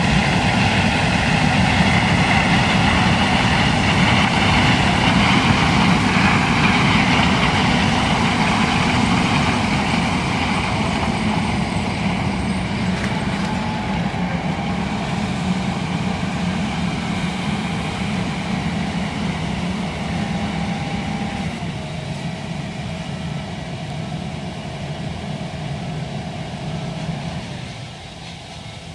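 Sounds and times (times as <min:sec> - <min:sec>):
combine harvester running: 0:00.0 - 0:28.9.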